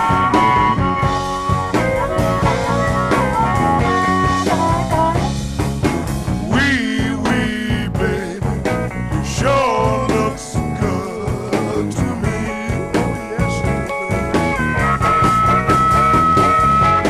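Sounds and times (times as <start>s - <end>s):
blues band playing: 0.0s - 17.0s
lead guitar long held notes: 0.0s - 17.0s.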